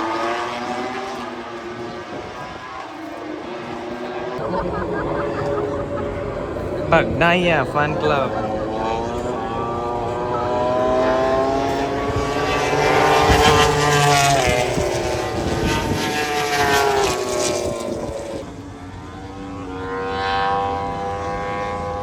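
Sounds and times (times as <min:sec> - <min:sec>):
engines passing by: 0:00.0 - 0:22.0.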